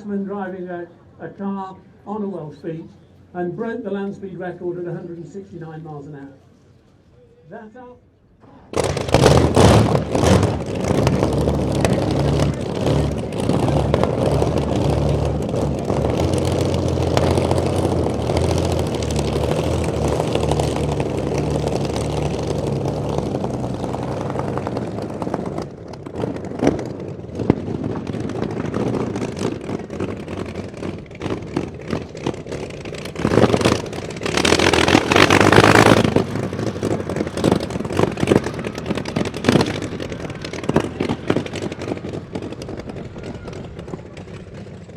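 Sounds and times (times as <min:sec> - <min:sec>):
loud rush of noise: 0:08.4 - 0:44.9
aero engine running: 0:08.5 - 0:44.9.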